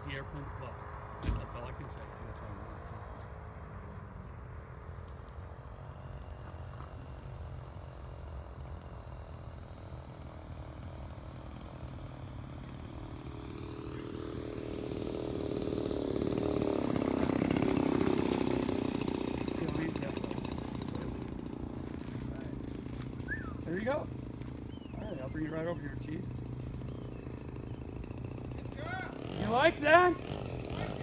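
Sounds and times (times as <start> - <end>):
model plane engine running: 5.7 - 31.0.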